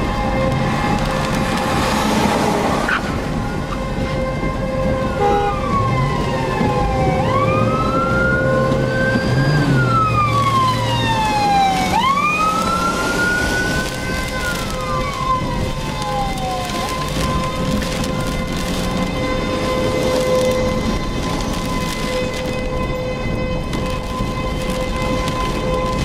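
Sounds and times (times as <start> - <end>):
car driving in rain: 0.0 - 26.0
siren wailing: 0.0 - 26.0.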